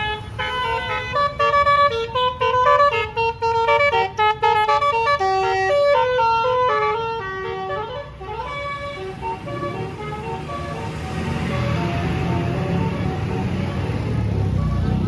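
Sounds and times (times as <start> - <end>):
bus musical horn melody: 0.0 - 15.0.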